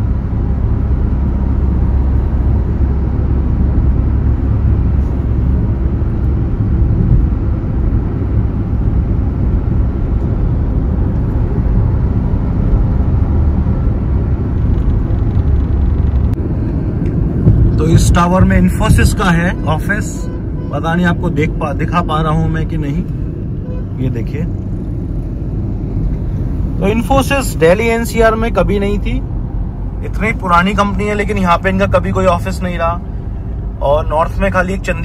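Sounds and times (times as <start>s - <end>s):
car engine at highway speed: 0.0s - 35.0s
tyre road noise: 0.0s - 35.0s.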